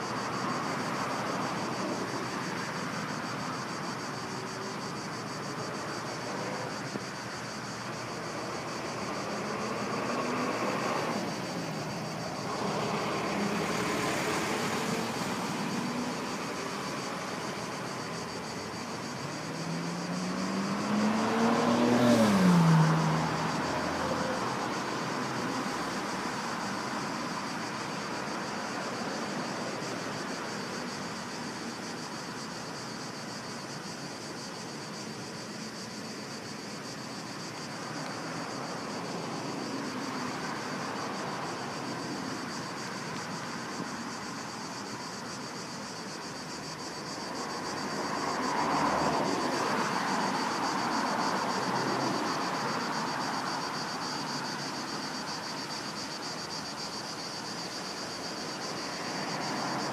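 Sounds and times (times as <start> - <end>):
cicadas shrilling: 0.0 - 59.9.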